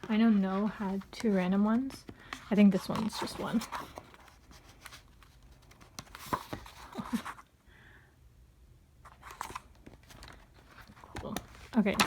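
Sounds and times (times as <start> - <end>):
packaging clicks and rustles: 0.0 - 7.4, 9.1 - 12.0.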